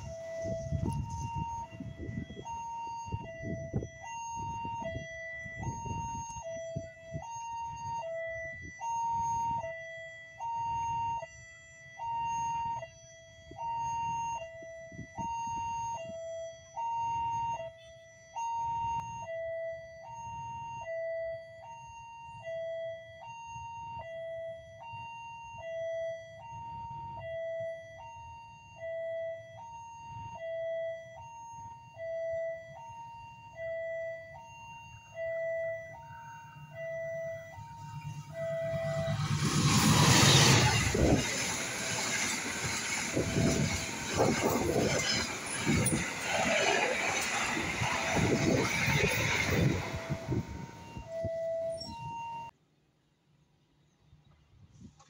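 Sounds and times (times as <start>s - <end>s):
two-tone crossing warning alarm: 0.0s - 52.6s.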